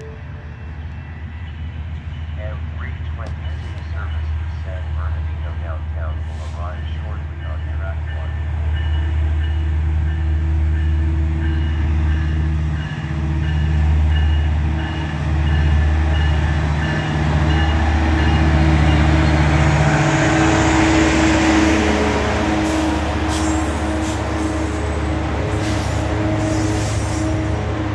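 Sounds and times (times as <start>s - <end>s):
diesel locomotive engine droning: 0.0s - 27.9s
train coaches rolling on rails: 0.0s - 27.9s.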